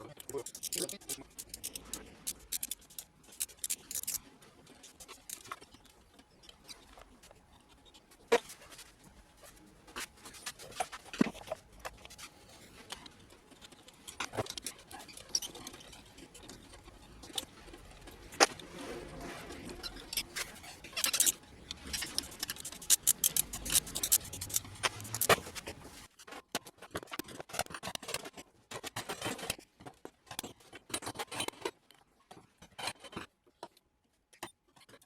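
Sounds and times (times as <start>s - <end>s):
tools clicking and scraping metal: 0.0s - 8.8s, 10.0s - 18.7s, 19.5s - 35.0s.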